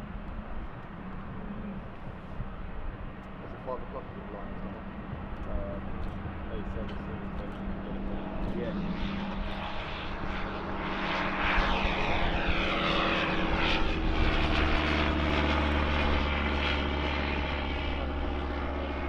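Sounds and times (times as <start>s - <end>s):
propeller airplane passing: 0.0s - 19.0s.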